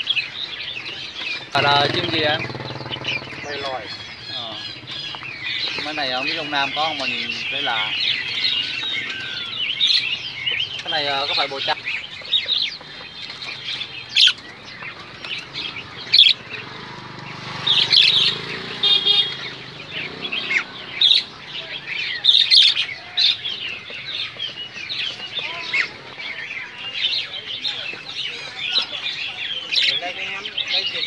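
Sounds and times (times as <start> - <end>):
sharp loud bird calls: 0.0 - 31.0
songbirds chirping: 0.0 - 31.0.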